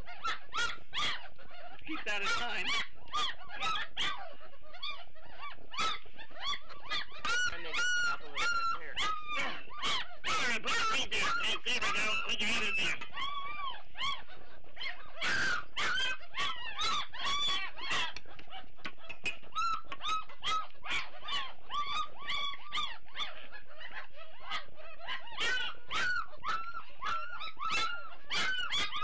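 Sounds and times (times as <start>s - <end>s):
puppies whining and yelping: 0.0s - 29.0s.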